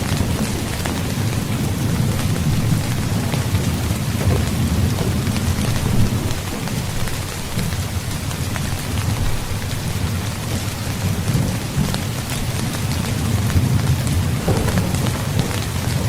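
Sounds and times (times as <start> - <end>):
heavy rain: 0.0 - 16.0
rolling thunder rumble: 0.0 - 16.0.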